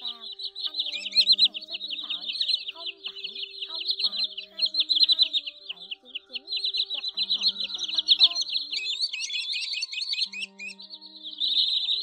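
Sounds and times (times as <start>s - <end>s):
sandpipers calling: 0.0s - 12.0s
soft background music: 0.0s - 12.0s.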